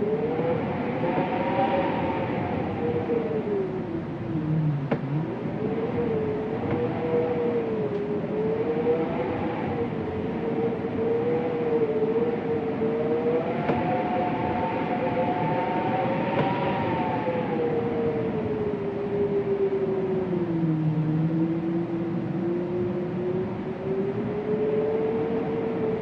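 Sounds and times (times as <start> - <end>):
wind moaning: 0.0 - 26.0.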